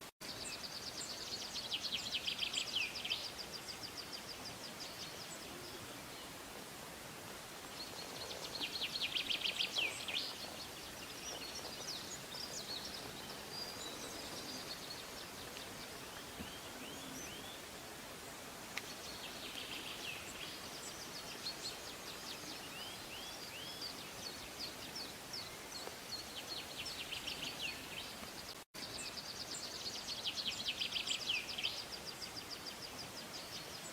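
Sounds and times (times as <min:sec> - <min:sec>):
songbirds trilling and chirping: 0:00.2 - 0:33.9
steady background hiss: 0:00.2 - 0:33.9.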